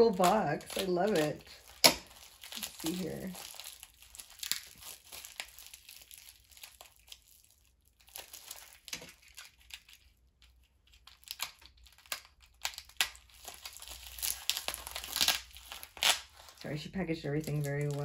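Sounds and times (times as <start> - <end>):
plastic wrapping crinkling and tearing: 0.0 - 18.0.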